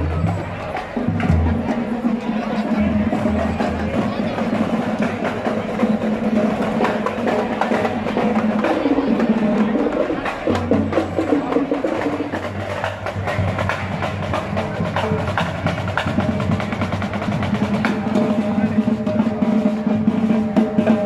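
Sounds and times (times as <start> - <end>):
drums: 0.0 - 21.0
rapid wood block percussion: 0.0 - 21.0.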